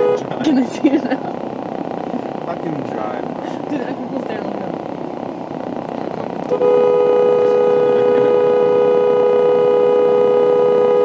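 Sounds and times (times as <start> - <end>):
car horn blaring: 0.0 - 11.0.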